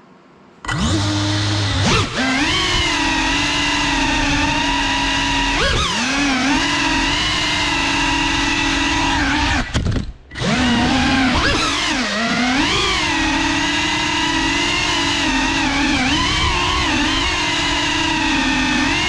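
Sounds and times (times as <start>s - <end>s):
drone propellers whining: 0.6s - 19.0s.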